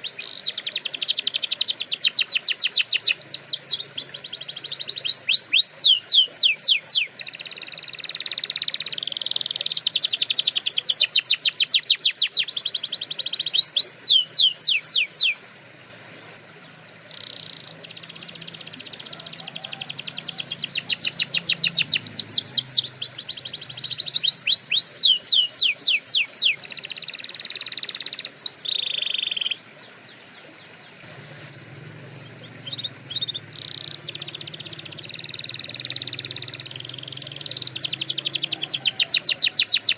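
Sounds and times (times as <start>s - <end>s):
canary singing: 0.0s - 15.4s, 16.6s - 39.9s.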